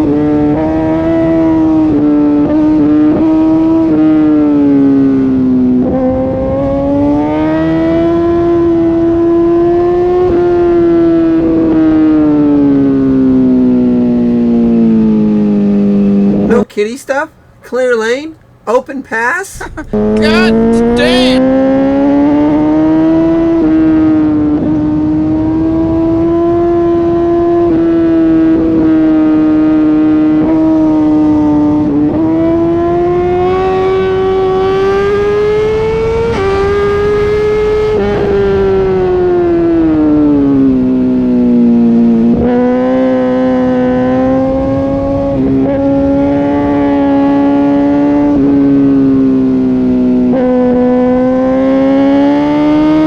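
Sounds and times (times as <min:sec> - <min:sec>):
motorcycle engine at high revs: 0:00.0 - 0:16.4, 0:19.9 - 0:53.0.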